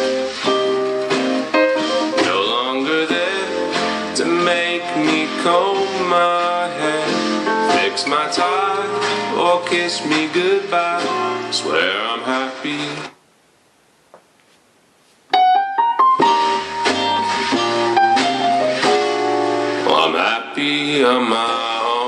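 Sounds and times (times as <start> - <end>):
guitar song through small speaker: 0.0 - 13.2, 15.3 - 22.0.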